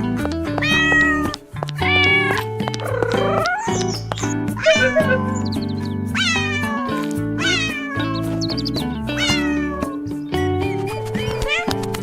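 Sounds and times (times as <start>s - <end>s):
background music: 0.0s - 12.0s
cat meowing: 0.6s - 10.2s, 11.2s - 12.0s.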